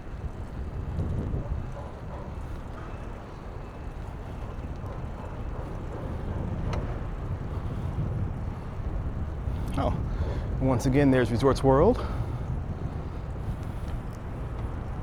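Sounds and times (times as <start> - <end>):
street traffic rumble: 0.0 - 15.0
wind buffeting microphone: 0.0 - 15.0.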